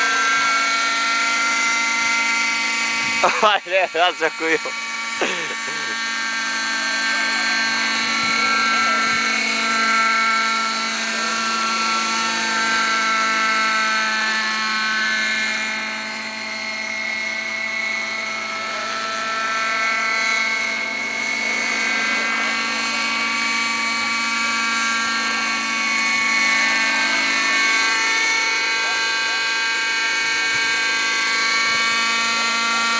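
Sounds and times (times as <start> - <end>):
model helicopter whine: 0.0 - 32.9.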